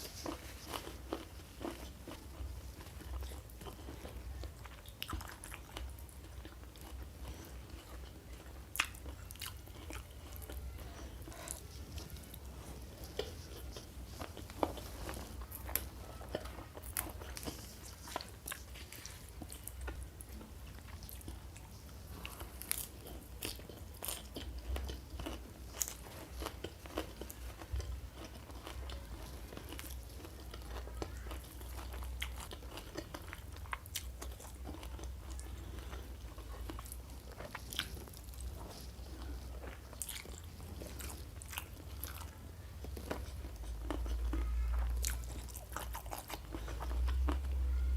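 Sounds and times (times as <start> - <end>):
person chewing crunchy food: 0.0 - 47.8.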